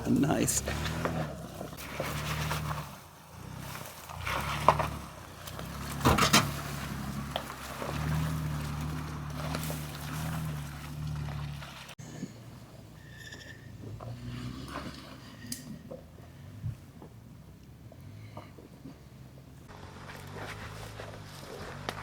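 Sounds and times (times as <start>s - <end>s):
off-road vehicle engine running: 0.0s - 22.0s.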